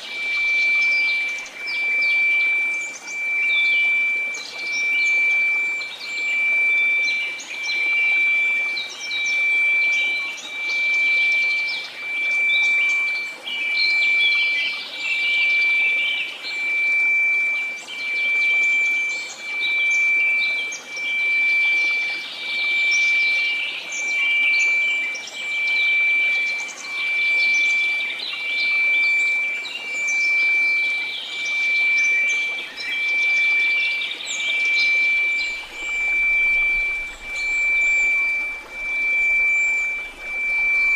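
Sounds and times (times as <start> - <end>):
birds chirping: 0.0 - 40.9
steady sine tone: 0.0 - 40.9.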